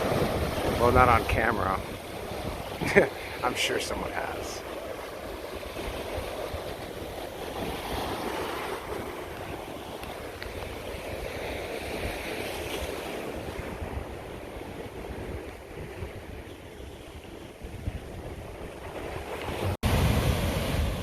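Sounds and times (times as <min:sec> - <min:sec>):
wind buffeting microphone: 0:00.0 - 0:03.4, 0:04.7 - 0:21.0
ocean surf washing ashore: 0:00.0 - 0:21.0.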